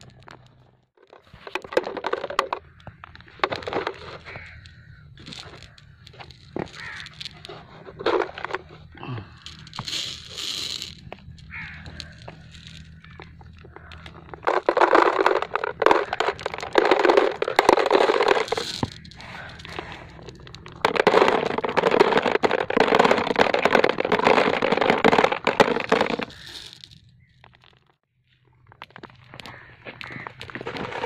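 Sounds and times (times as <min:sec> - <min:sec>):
crackling and scraping on plastic jar: 0:00.0 - 0:27.9, 0:28.9 - 0:31.0.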